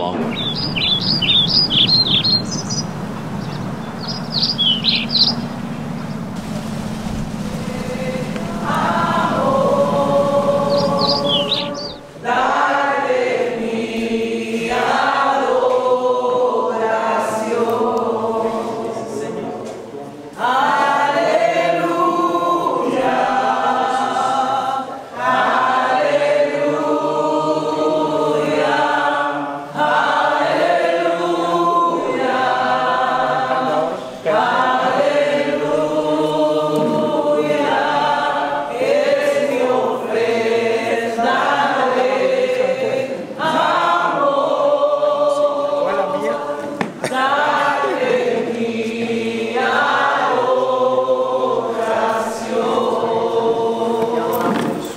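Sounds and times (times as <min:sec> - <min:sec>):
choir singing long held notes: 0:00.0 - 0:54.9.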